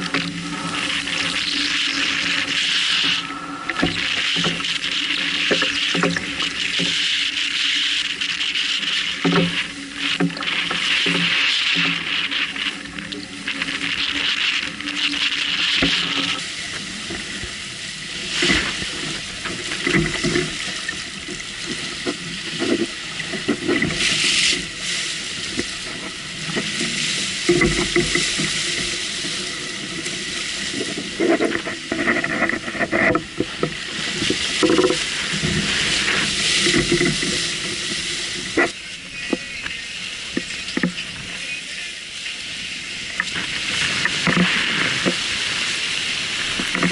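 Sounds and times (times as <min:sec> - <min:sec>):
water rushing along hull: 0:00.0 - 0:46.9
waves slapping boat side: 0:00.0 - 0:46.9.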